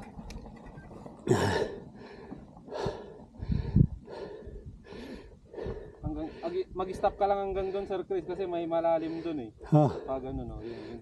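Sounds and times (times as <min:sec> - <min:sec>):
man breathing hard: 0:01.3 - 0:11.0.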